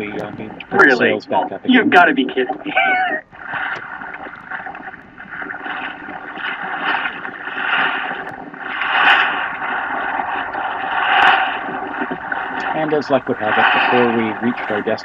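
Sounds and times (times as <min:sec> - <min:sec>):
rushing water: 0:02.4 - 0:15.0.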